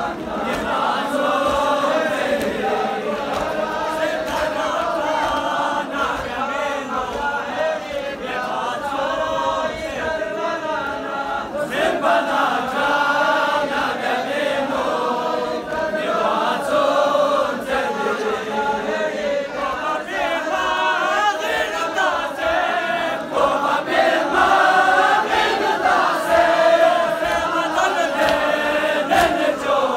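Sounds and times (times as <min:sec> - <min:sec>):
crowd of men chanting: 0:00.0 - 0:29.9.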